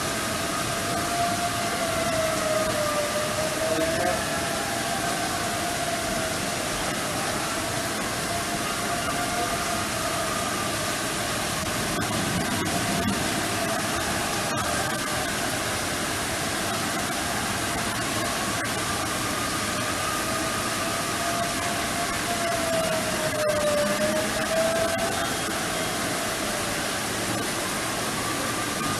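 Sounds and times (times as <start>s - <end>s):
warning siren wailing: 0.0s - 28.9s.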